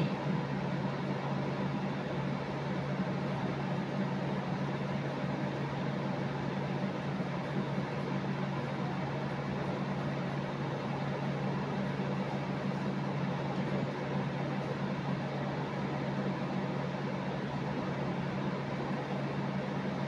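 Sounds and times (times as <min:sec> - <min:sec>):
appliance humming with hiss: 0:00.0 - 0:20.0.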